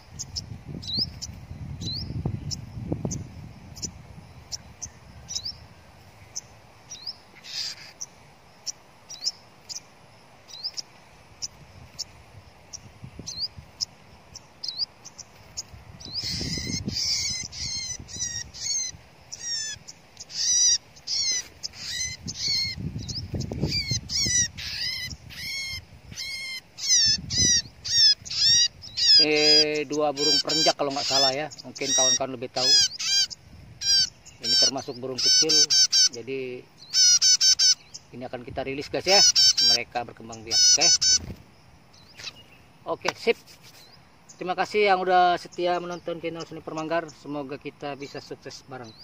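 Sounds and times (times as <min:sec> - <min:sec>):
small songbirds chirping: 0:00.0 - 0:49.0.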